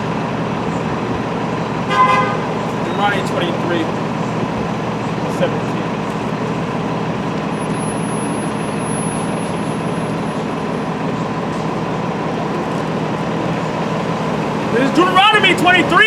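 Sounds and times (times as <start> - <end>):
vehicle engine rumble: 0.0 - 16.0
faint high whine: 2.6 - 16.0.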